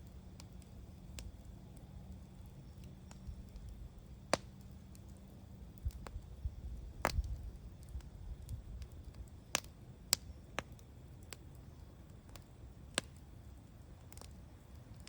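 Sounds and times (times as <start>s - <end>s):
campfire crackling and popping: 0.0s - 15.0s
low rumble of burning: 0.0s - 15.0s.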